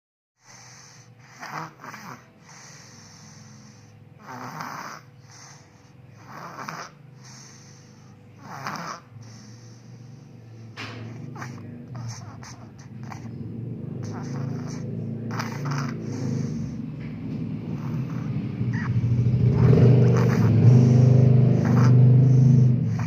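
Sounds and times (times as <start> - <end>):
small child snoring: 0.4 - 23.0.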